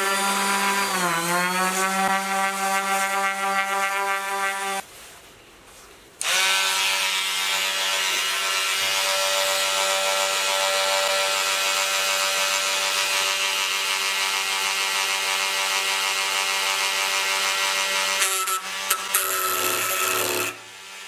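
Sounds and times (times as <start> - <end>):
rotary tool grinding wood: 0.0 - 4.8, 6.2 - 20.8.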